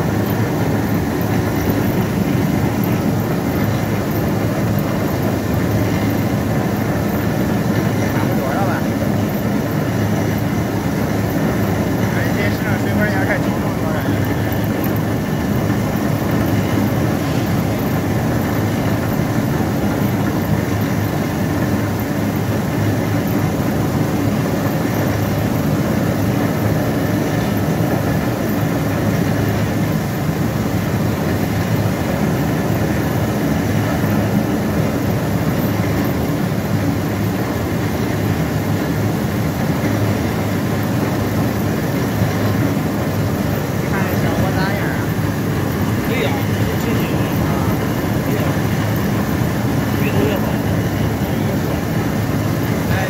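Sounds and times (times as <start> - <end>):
washing machine brush rollers running: 0.0 - 53.0.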